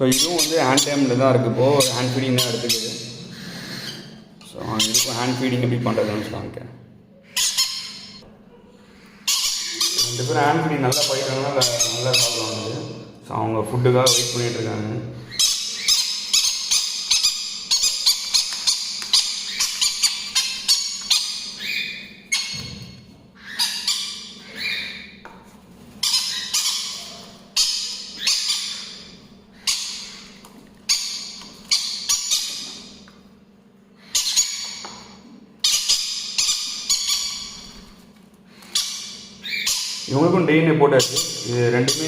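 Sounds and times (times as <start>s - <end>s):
young parrots squawking: 0.0s - 13.1s, 13.9s - 25.3s, 25.9s - 33.1s, 33.9s - 42.0s.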